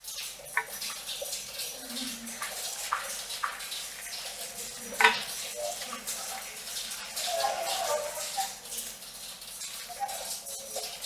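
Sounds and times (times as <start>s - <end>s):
rain on a metal roof: 0.0s - 11.0s
water running and splashing: 0.0s - 11.0s.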